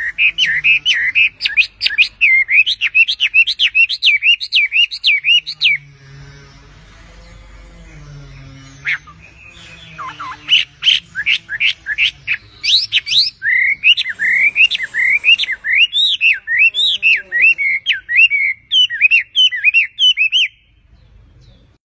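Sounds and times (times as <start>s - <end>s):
bird singing whistled notes: 0.0s - 6.3s, 8.2s - 21.7s.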